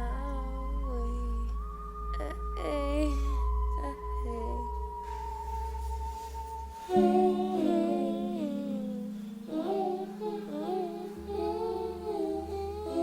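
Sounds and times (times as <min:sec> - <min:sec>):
person humming a melody: 0:00.0 - 0:06.0, 0:06.9 - 0:13.0
steady low drone: 0:00.0 - 0:13.0.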